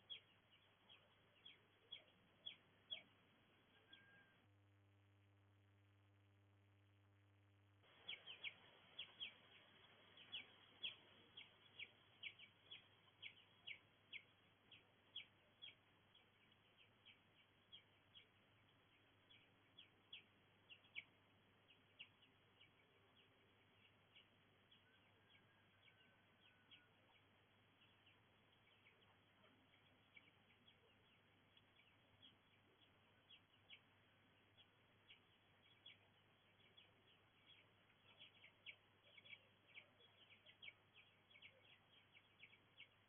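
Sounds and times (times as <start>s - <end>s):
bird chirping: 0.0s - 4.5s, 7.8s - 43.0s
faint hiss: 0.0s - 43.0s.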